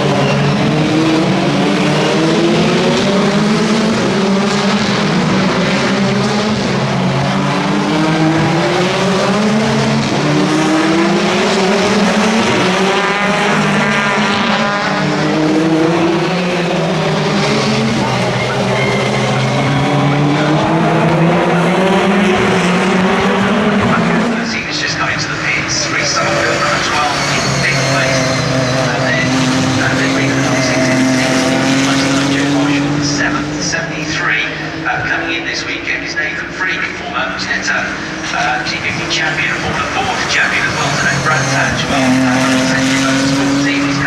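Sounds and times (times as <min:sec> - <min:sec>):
race car engines revving: 0:00.0 - 0:44.0.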